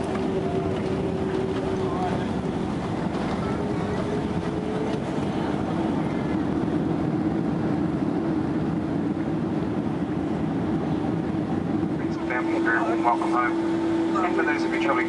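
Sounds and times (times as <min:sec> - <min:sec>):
engine and airflow rush: 0:00.0 - 0:15.0
low steady hum: 0:00.0 - 0:15.0.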